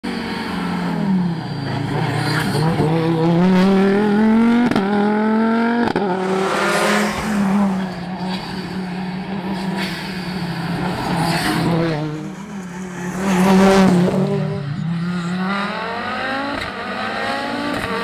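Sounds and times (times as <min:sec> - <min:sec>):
rally car engine accelerating: 0:00.1 - 0:18.0.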